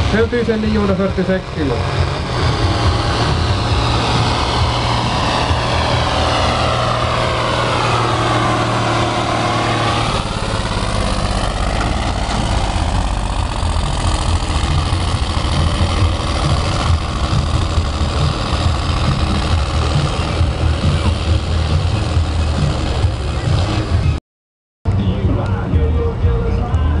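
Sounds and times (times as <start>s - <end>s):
tractor diesel engine under load: 0.0s - 24.2s.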